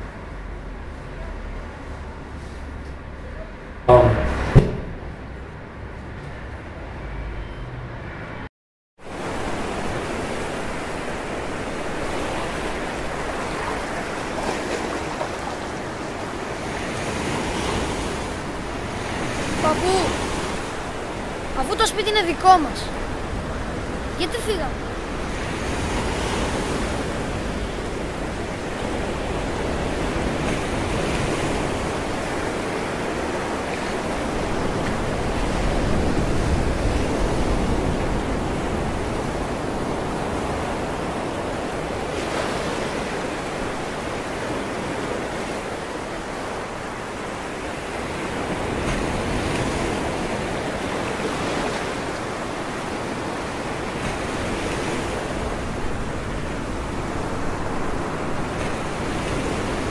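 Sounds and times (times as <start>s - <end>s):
sea waves washing on shore: 9.0s - 59.9s.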